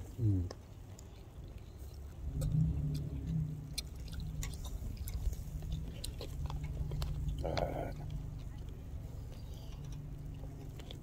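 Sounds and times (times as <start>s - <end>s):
low engine hum: 1.2s - 11.0s.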